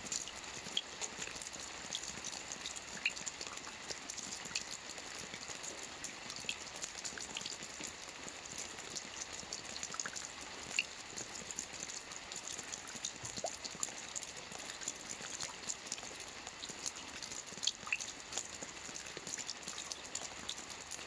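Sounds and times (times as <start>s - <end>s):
soft rain on a roof: 0.0s - 21.0s.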